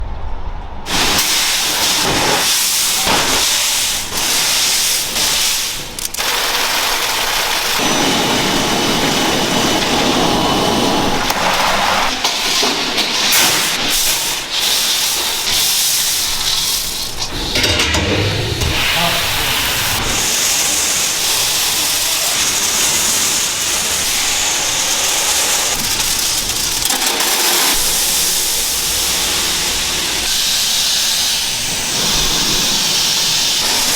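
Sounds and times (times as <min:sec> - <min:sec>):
steam hissing: 0:00.9 - 0:33.9.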